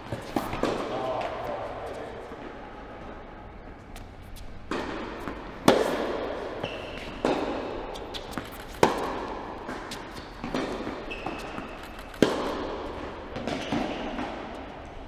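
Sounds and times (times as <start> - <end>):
racket hitting tennis ball: 0.0 - 2.8, 3.6 - 15.0.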